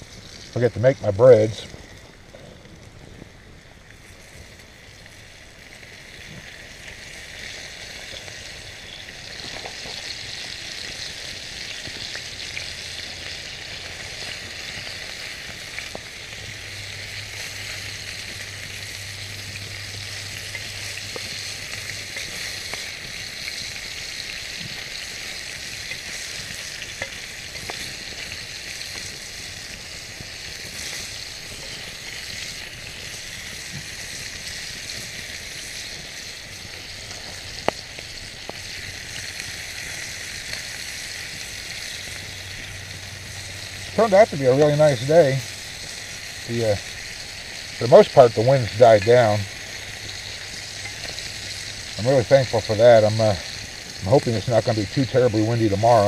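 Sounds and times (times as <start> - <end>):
sausage sizzling in frying pan: 0.0 - 56.0.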